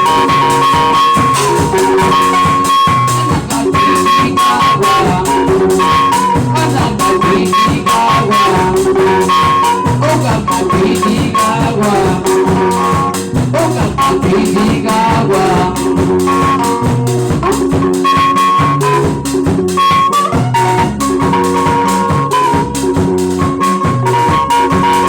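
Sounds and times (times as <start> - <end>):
fast percussion beat: 0.0 - 25.0
live band music: 0.0 - 25.0.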